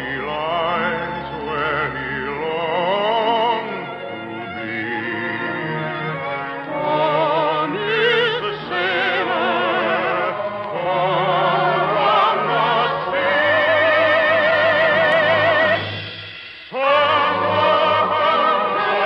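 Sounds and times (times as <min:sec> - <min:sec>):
operatic soprano singing: 0:00.0 - 0:19.0
orchestra playing: 0:00.1 - 0:19.0.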